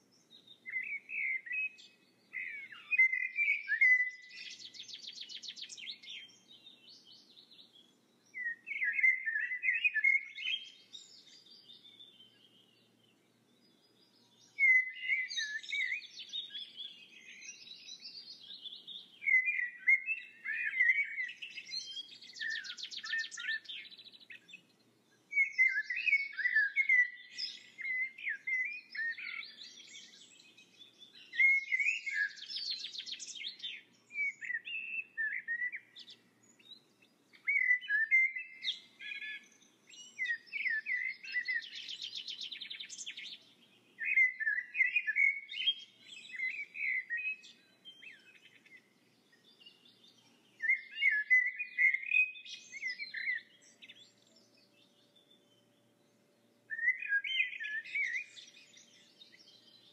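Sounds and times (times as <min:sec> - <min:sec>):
birdsong chirping and warbling: 0:00.0 - 0:59.9.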